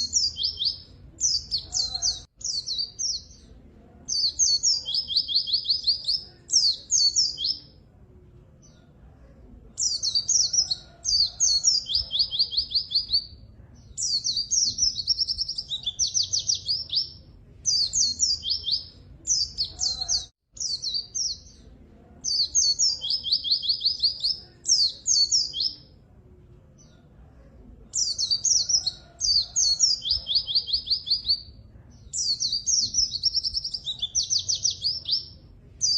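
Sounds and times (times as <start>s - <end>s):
bird singing chattering trills: 0.0s - 3.5s, 4.1s - 7.8s, 9.8s - 21.6s, 22.3s - 25.9s, 27.9s - 35.9s.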